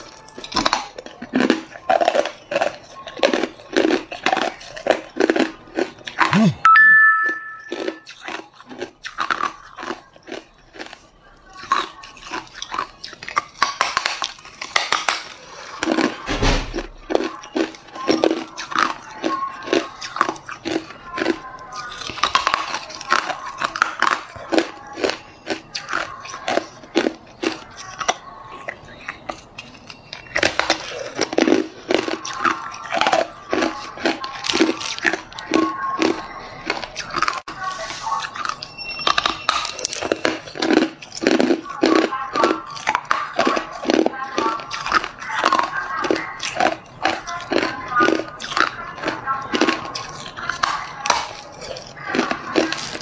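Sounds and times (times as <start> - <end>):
ice being chewed: 0.0 - 53.0.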